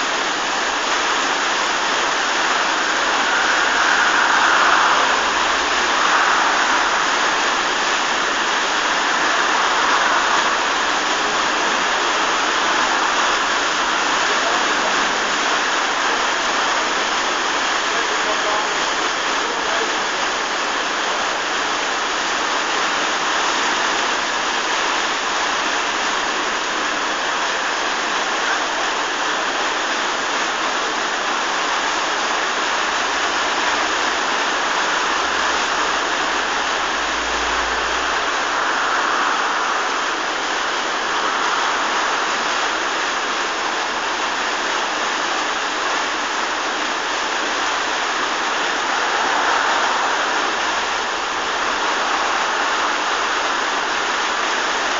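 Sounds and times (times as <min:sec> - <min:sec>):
water rushing into lock chamber: 0:00.0 - 0:29.2, 0:30.8 - 0:54.9.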